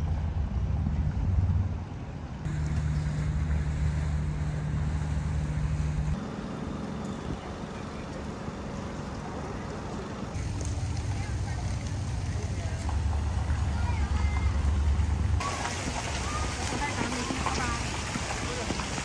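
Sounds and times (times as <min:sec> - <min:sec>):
boat engine running: 0:00.0 - 0:19.0
higher engine hum: 0:00.0 - 0:19.0.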